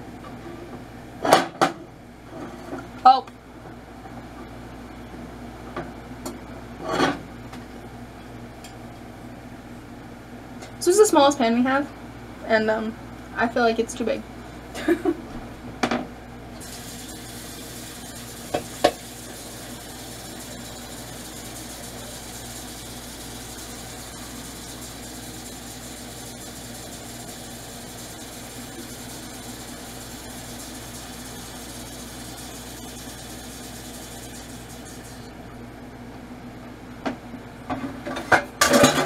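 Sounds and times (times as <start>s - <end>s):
mechanical hum and hiss: 0.0s - 39.0s.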